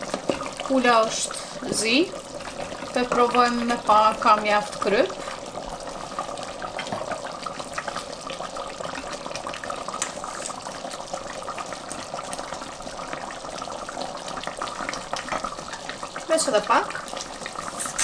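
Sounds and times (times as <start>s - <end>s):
stew bubbling in a pot: 0.0s - 18.0s.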